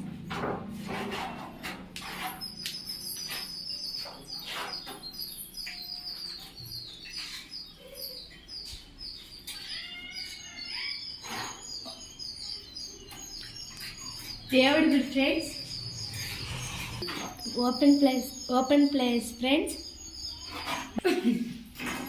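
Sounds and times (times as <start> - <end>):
birds chirping: 1.5 - 22.0.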